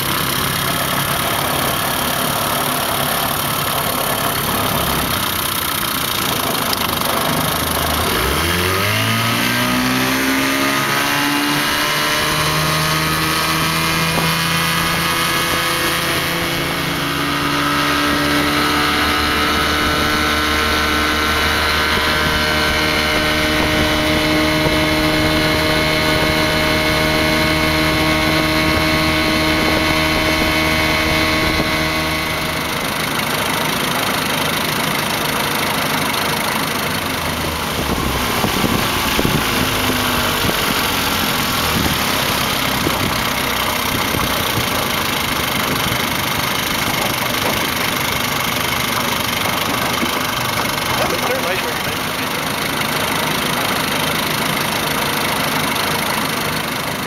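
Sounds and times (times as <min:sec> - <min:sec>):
outboard motor revving: 0:00.0 - 0:57.0.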